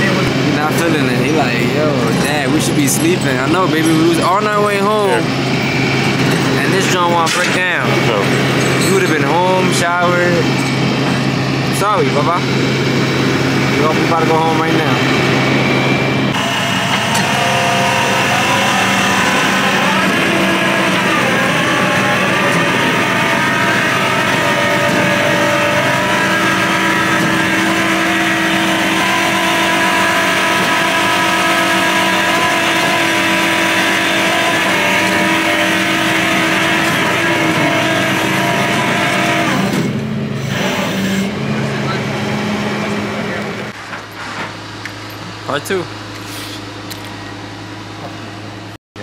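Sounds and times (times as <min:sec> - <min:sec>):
vehicle engine running loudly: 0:00.0 - 0:49.0.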